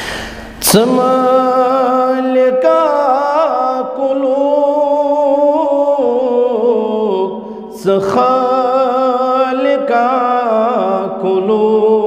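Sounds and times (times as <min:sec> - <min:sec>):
man singing: 0:00.6 - 0:12.0.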